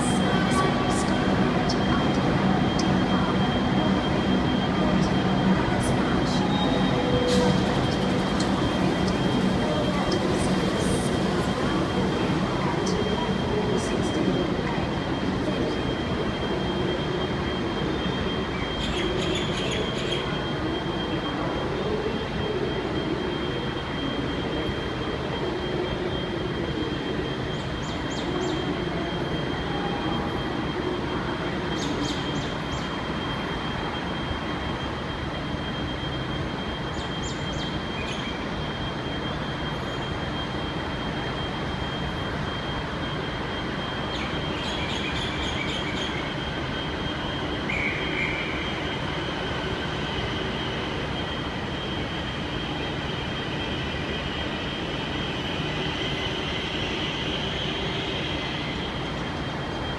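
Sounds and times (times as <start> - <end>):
diesel train engine and rail noise: 0.0 - 59.9.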